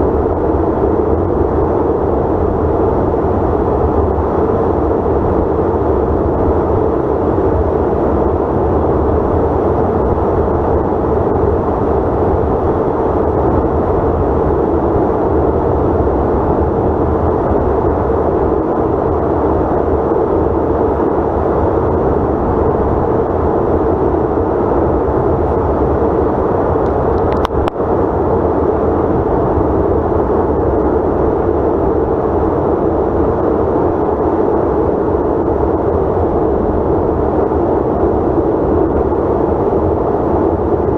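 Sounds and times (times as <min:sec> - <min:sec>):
jet engine drone in flight: 0:00.0 - 0:40.9.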